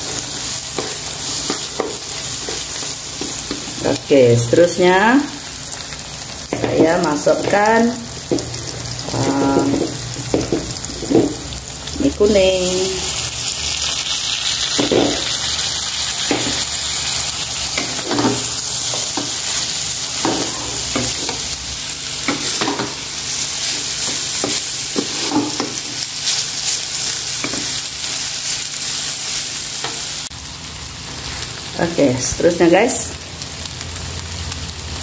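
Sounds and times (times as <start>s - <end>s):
food sizzling in a wok: 0.0s - 35.0s.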